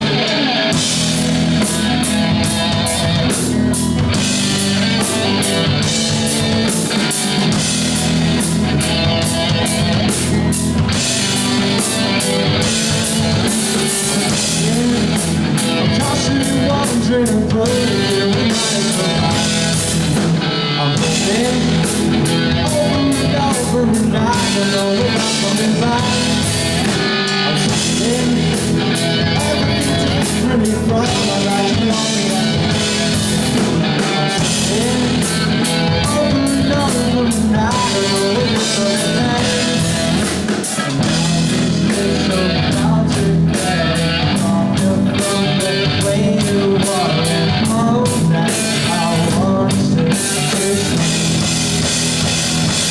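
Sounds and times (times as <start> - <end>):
drum kit beat: 0.0 - 52.9
guitar: 0.0 - 52.9
rock band playing live: 0.0 - 52.9.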